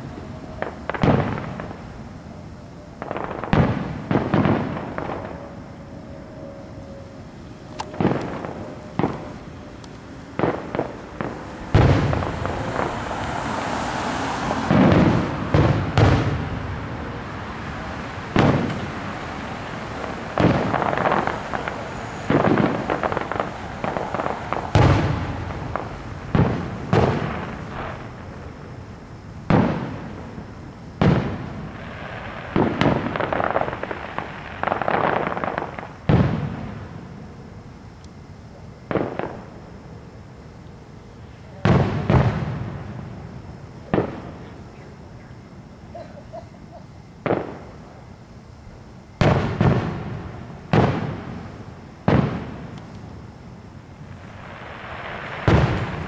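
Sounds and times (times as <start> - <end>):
fireworks bursting with bangs: 0.0 - 6.4, 7.2 - 39.8, 41.2 - 45.1, 47.2 - 56.0
fireworks crackling: 0.0 - 46.0, 46.6 - 56.0.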